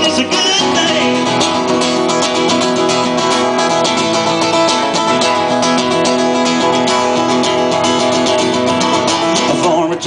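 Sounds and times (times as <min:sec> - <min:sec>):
country band playing: 0:00.0 - 0:10.0
strummed acoustic guitar: 0:00.0 - 0:10.0.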